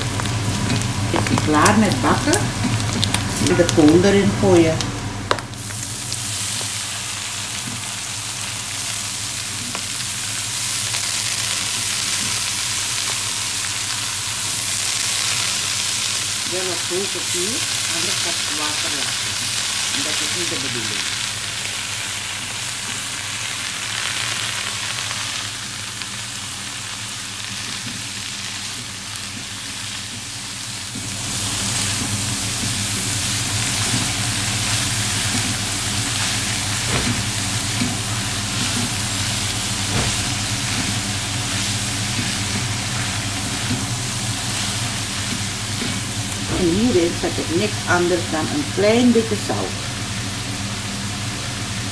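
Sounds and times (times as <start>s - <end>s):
food sizzling in a wok: 0.0s - 51.9s.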